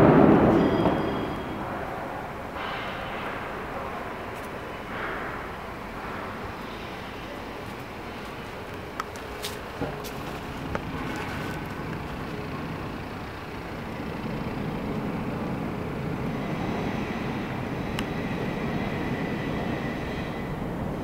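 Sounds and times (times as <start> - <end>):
garbage truck mechanical rumble: 0.0 - 21.0.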